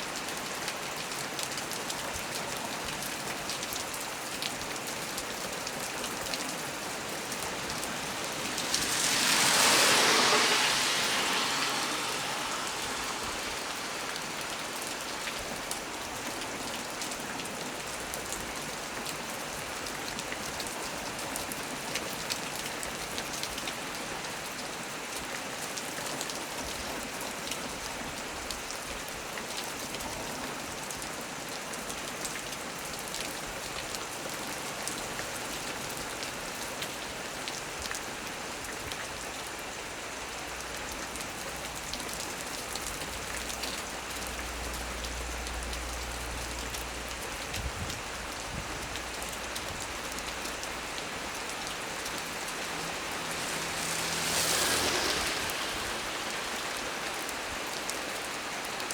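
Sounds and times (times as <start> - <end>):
heavy rain on leaves: 0.0 - 58.9.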